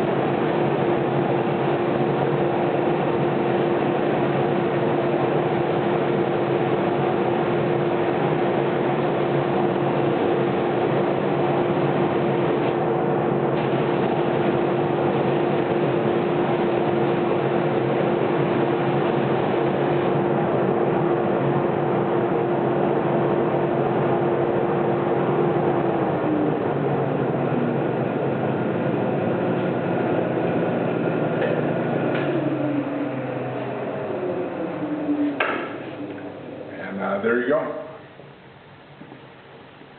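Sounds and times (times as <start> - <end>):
drum sander whirring: 0.0 - 36.7.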